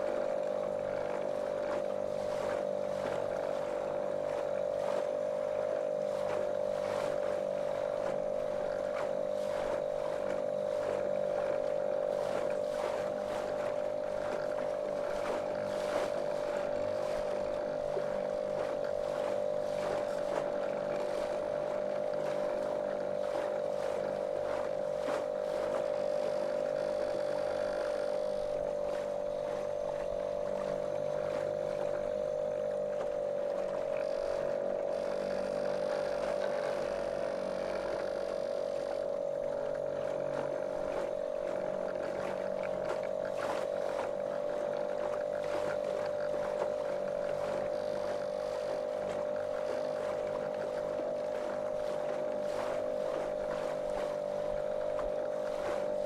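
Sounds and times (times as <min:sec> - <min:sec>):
outboard motor droning: 0:00.0 - 0:56.0
water slapping against hull: 0:00.0 - 0:56.0.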